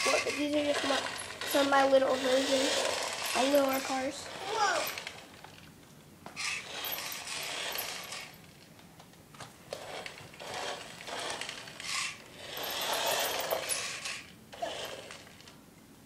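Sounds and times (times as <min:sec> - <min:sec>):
toy car motor and gears whirring: 0:00.0 - 0:05.4, 0:06.4 - 0:08.5, 0:09.7 - 0:15.6.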